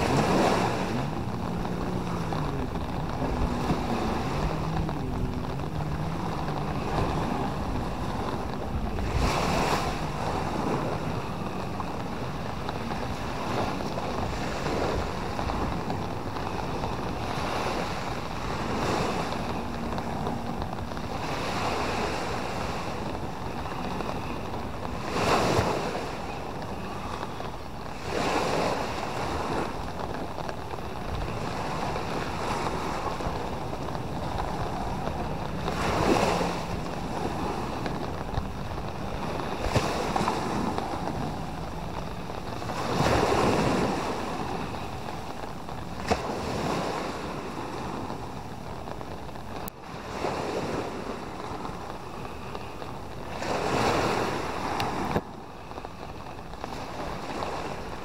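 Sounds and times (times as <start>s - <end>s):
waves breaking on beach: 0.0s - 58.0s
wind buffeting microphone: 0.0s - 58.0s.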